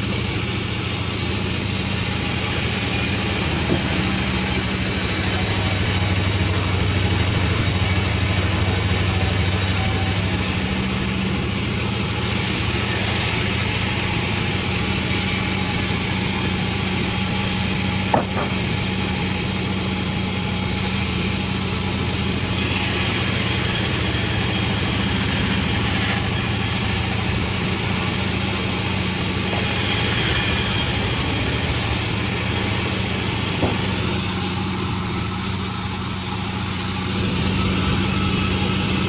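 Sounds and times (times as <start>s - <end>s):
sawmill machinery humming: 0.0s - 39.0s.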